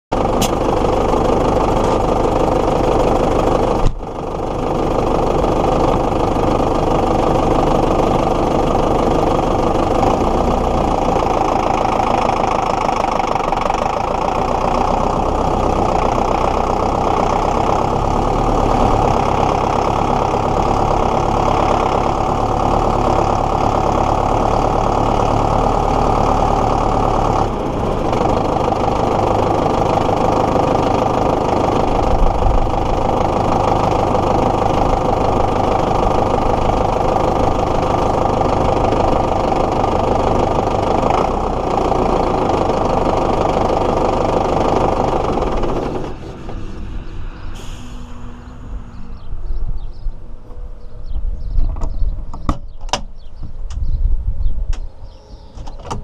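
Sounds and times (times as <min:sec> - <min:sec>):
tractor diesel engine running: 0:00.1 - 0:56.0.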